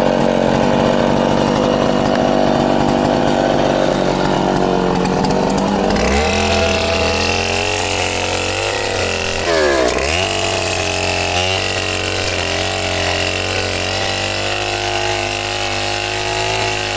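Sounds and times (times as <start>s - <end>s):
chainsaw engine running: 0.0s - 16.9s.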